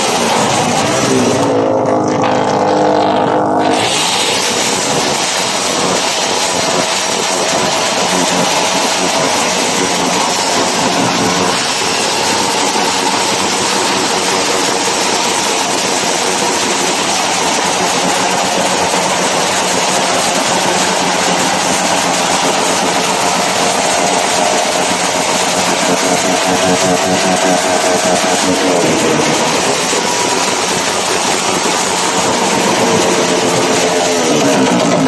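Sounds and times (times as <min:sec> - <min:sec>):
motorcycle engines revving high: 0:00.0 - 0:35.0.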